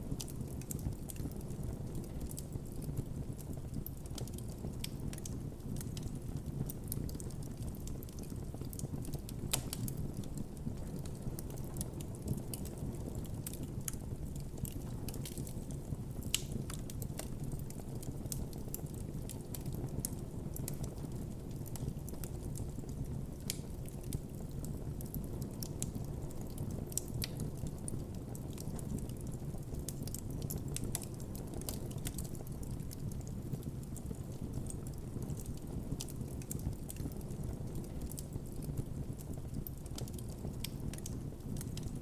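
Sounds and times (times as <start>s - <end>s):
campfire flame rumbling: 0.0s - 42.0s
burning wood crackling: 0.2s - 42.0s.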